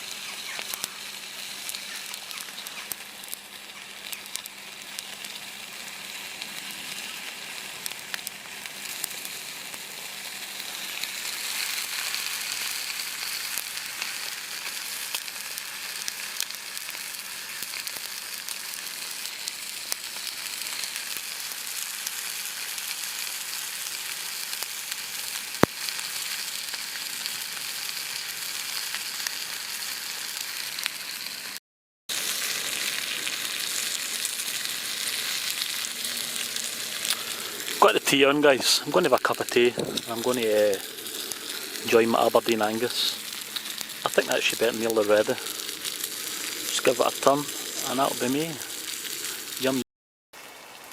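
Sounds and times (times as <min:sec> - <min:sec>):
steak sizzling in a pan: 0:00.0 - 0:49.8.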